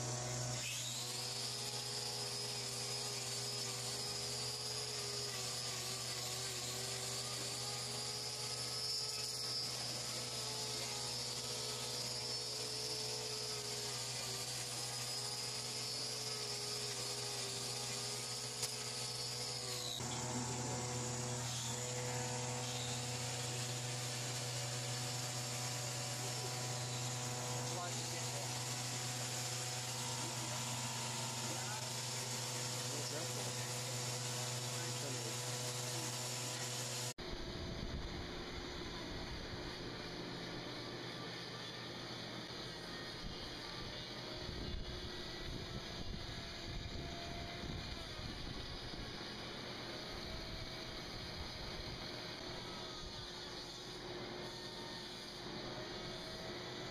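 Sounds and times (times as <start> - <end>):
angle grinder whining: 0.0 - 56.9.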